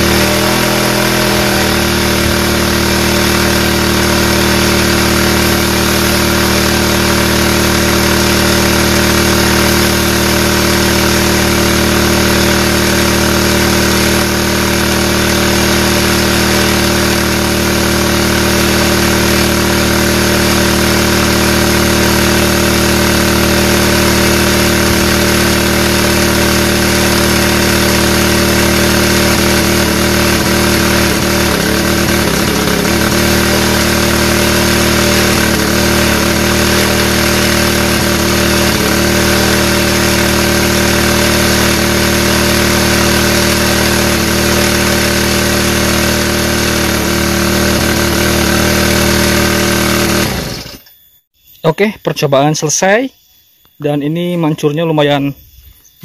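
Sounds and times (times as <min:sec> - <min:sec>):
water jetting from spray hose: 0:00.0 - 0:50.2
small engine running steadily: 0:00.0 - 0:51.0.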